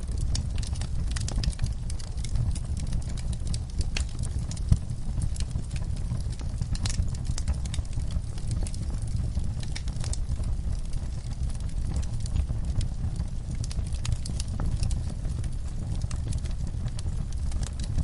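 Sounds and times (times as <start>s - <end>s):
log fire crackling and popping: 0.0s - 18.0s.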